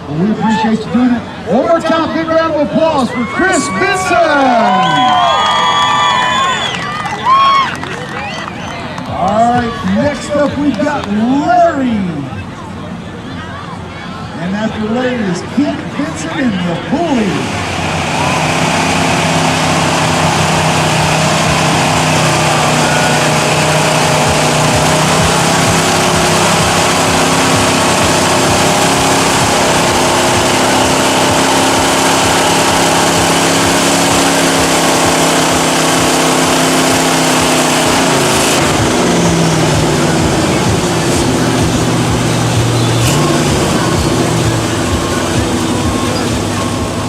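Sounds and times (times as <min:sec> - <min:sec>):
truck engine running loud: 0:00.0 - 0:47.0.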